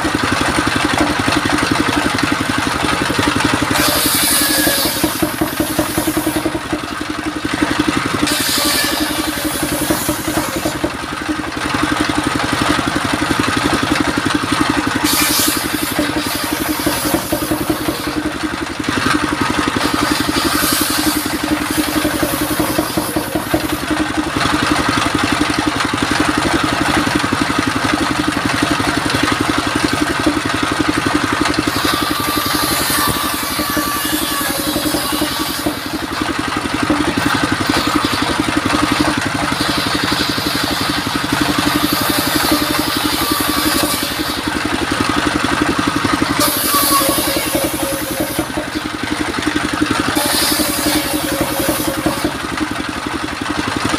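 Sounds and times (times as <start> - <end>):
circular saw cutting wood: 0.0 - 53.9
stationary engine running: 0.0 - 53.9.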